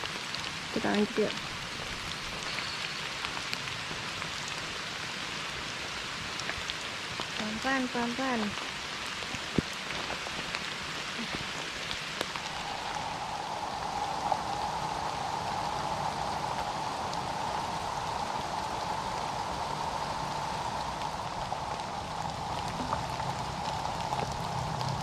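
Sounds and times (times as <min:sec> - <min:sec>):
sharp raindrop hits: 0:00.0 - 0:25.0
steady rain: 0:00.0 - 0:25.0.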